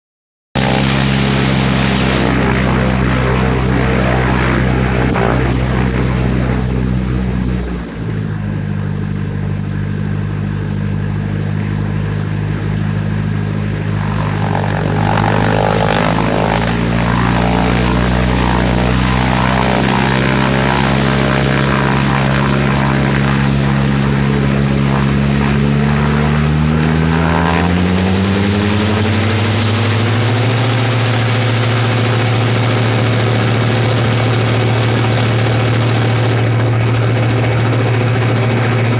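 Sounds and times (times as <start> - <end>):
wind rushing over microphone: 0.6 - 8.6, 10.0 - 38.9
airplane engine and propeller: 0.6 - 38.9.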